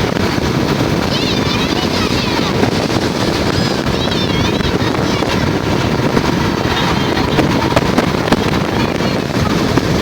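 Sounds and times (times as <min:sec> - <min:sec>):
motorboat engine running: 0:00.0 - 0:10.0
wind buffeting microphone: 0:00.0 - 0:10.0.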